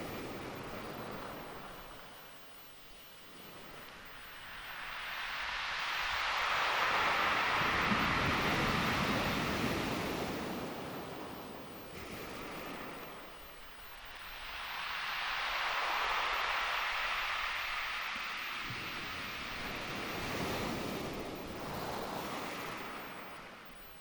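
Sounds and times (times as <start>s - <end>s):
waves washing ashore: 3.4s - 23.7s.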